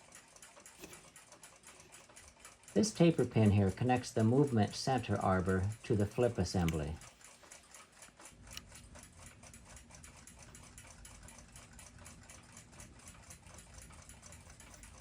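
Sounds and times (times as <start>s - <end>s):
clock ticking: 0.0s - 15.0s.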